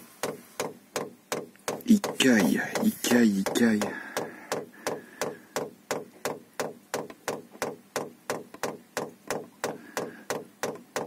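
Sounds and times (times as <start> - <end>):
fuel pump ticking: 0.0 - 11.0.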